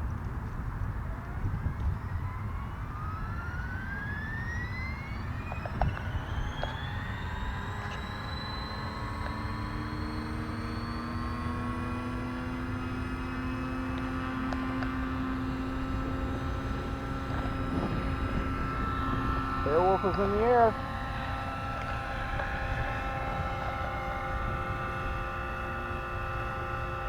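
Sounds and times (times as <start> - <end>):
low rotor hum: 0.0 - 27.0
helicopter motor whine rising: 0.2 - 27.0.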